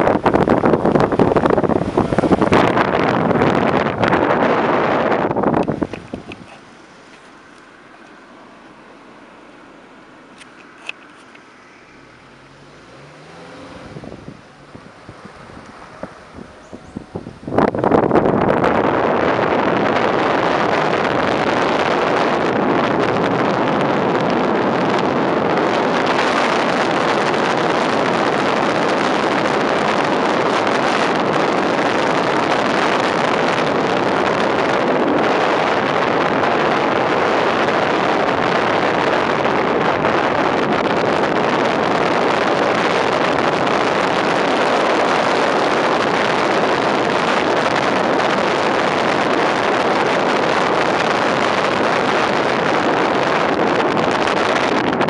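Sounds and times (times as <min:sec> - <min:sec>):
wind noise over microphone: 0:00.0 - 0:08.2, 0:10.3 - 0:55.0
car road noise: 0:00.0 - 0:55.0.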